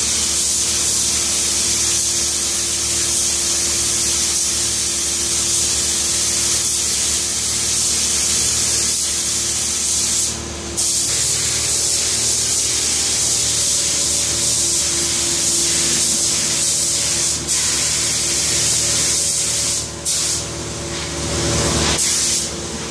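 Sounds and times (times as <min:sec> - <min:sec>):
spray gun hissing: 0:00.0 - 0:22.6.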